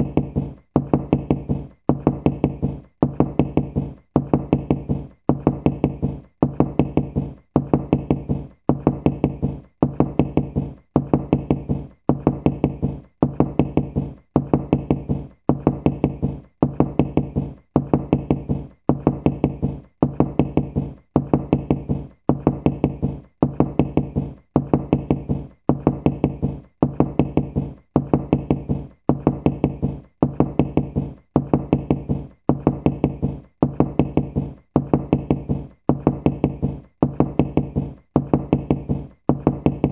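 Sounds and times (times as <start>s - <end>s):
quick runs of knocking: 0.0s - 39.9s.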